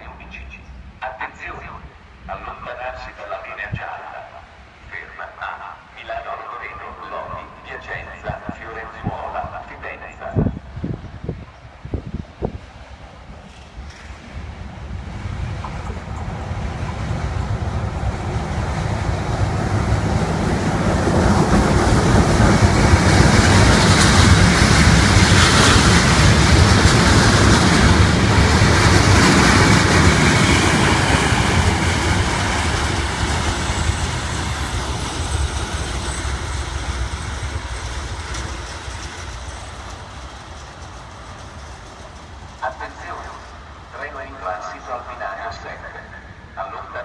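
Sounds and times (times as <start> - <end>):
train passing on tracks: 0.0 - 47.0.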